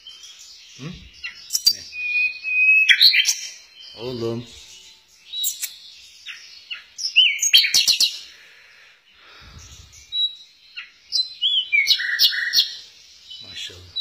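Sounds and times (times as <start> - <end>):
small songbird chirping and whistling: 0.0 - 8.3, 9.2 - 14.0.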